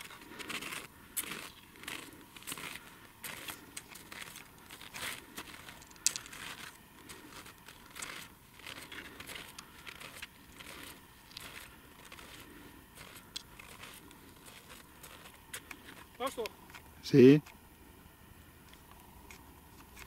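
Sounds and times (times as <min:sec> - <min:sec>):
footsteps crunching in snow: 0:00.0 - 0:16.4.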